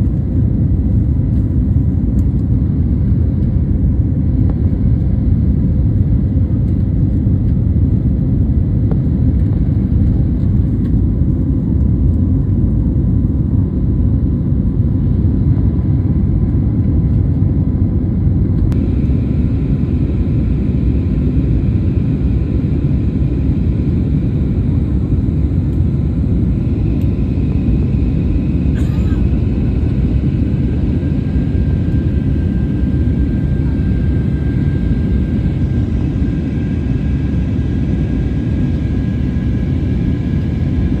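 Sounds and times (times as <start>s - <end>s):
airliner engines rumbling: 0.0s - 41.0s.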